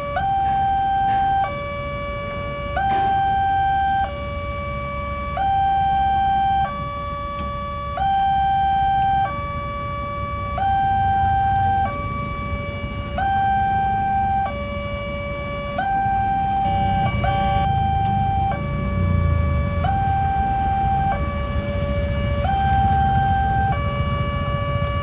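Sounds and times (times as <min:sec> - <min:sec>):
level crossing two-tone alarm: 0:00.0 - 0:25.0
low rumble of vehicles: 0:00.0 - 0:25.0.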